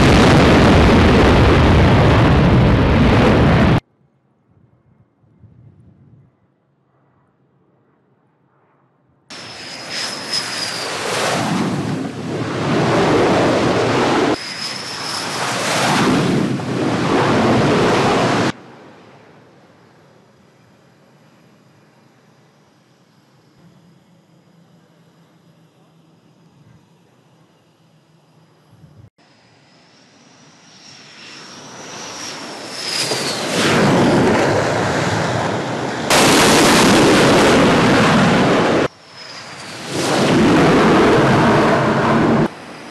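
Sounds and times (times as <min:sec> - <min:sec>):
jet whine falling in pitch: 0:00.0 - 0:03.8, 0:09.3 - 0:18.6, 0:20.5 - 0:42.9
jet engines roaring: 0:00.0 - 0:03.9, 0:06.8 - 0:42.9.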